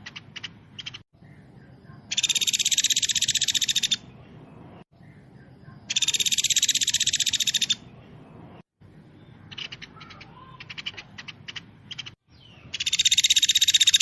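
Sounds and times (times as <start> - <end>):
songbird high-pitched trills: 0.0 - 4.1, 5.0 - 8.0, 9.1 - 14.0.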